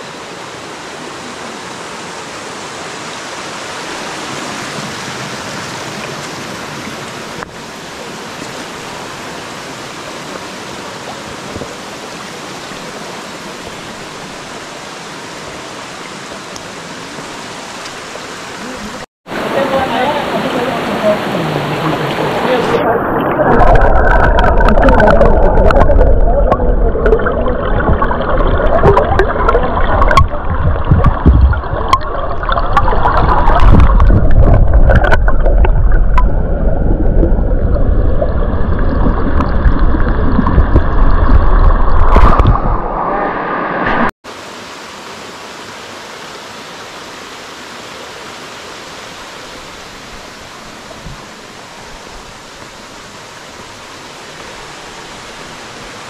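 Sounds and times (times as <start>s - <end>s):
rushing stream water: 0.0s - 56.0s.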